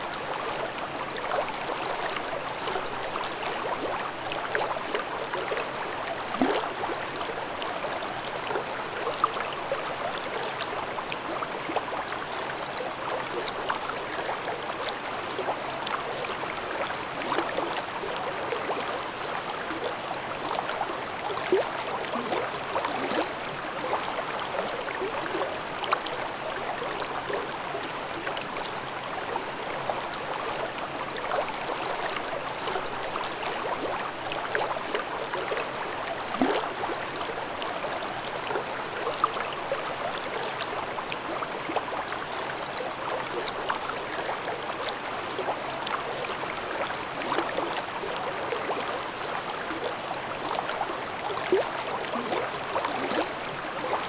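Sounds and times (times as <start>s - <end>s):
stream babbling over rocks: 0.1s - 54.0s.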